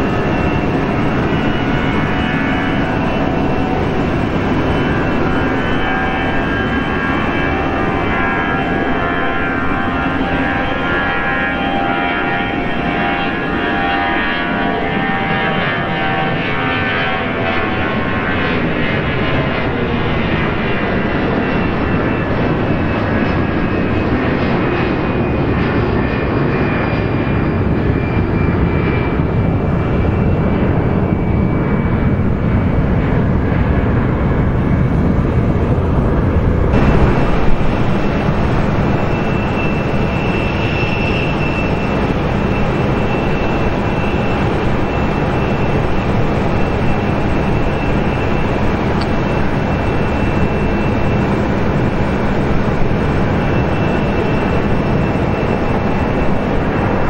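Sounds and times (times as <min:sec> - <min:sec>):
jet engine whine: 0:00.0 - 0:57.0
jet engines roaring: 0:00.0 - 0:57.0.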